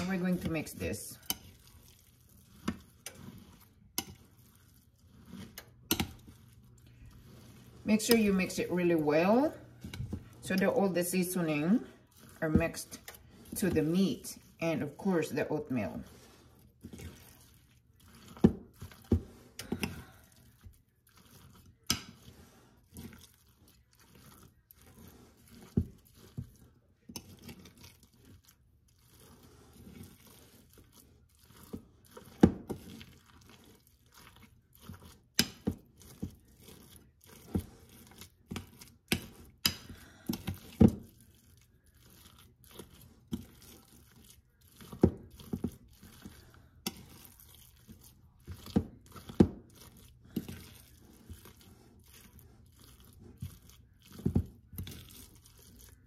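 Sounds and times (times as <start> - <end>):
wet squelching of mixing: 0.0 - 56.0.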